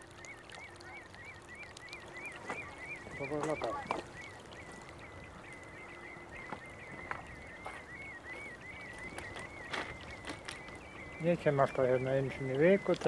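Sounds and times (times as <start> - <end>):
high warbling bird trill: 0.0 - 13.0
duck-like bird call: 0.2 - 12.0.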